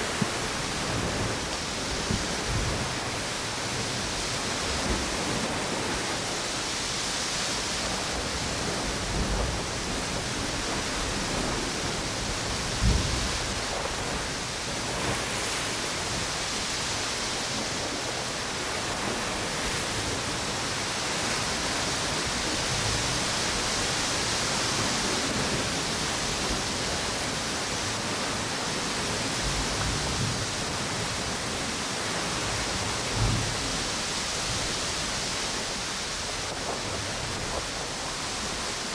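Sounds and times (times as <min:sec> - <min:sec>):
low thumps of wind gusts: 0:00.0 - 0:38.9
ocean waves: 0:00.0 - 0:38.9
strong wind: 0:00.0 - 0:38.9.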